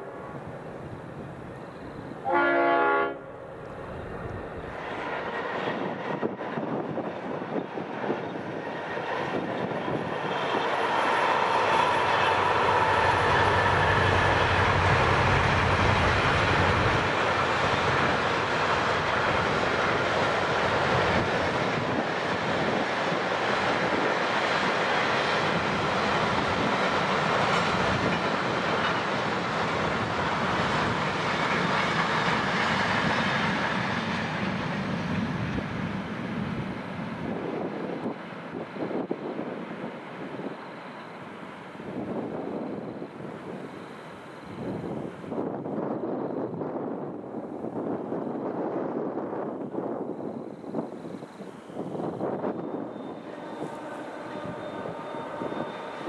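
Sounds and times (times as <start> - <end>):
diesel locomotive engines: 0.0 - 56.0
train wheels on rails: 0.0 - 56.0.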